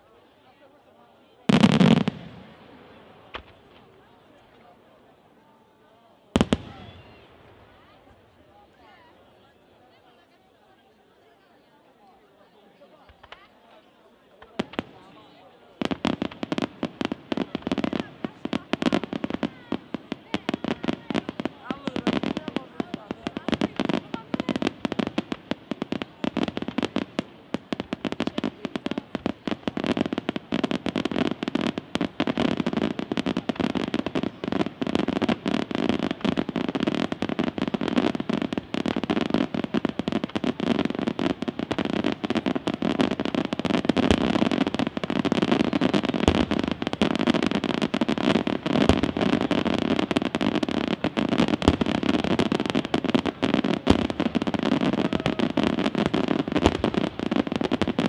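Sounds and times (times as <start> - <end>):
fireworks bangs and crackles: 0.1 - 58.0
deep fireworks booms: 1.5 - 4.0, 6.4 - 8.2, 15.7 - 58.0.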